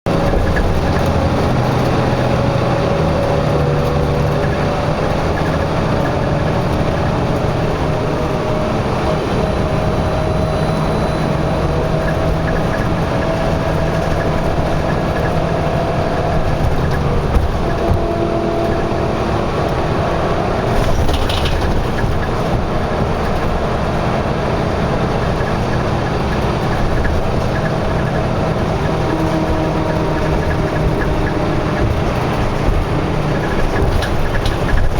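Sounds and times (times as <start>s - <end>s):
highway traffic noise: 0.0s - 34.9s.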